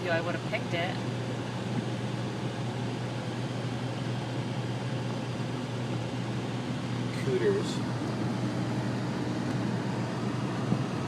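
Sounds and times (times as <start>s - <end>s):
car engine: 0.0s - 11.0s
constant low hum: 0.0s - 11.0s.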